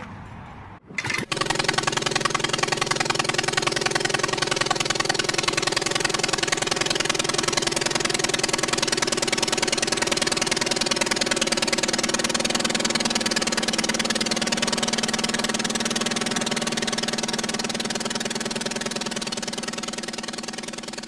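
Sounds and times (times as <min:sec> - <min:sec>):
aircraft piston engine running: 0:01.0 - 0:21.0.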